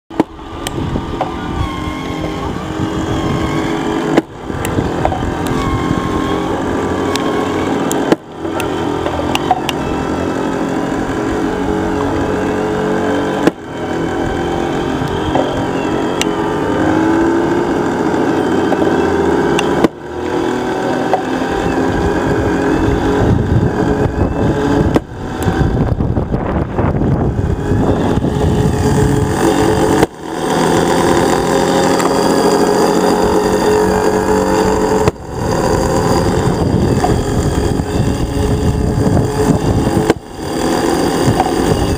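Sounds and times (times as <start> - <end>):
electric motor running: 0.1 - 41.9.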